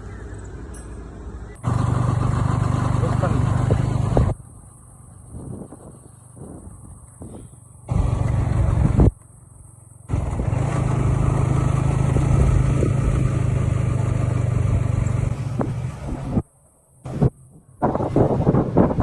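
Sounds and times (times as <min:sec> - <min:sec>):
road and wind noise: 0:00.0 - 0:19.0
motorcycle engine running: 0:01.5 - 0:19.0.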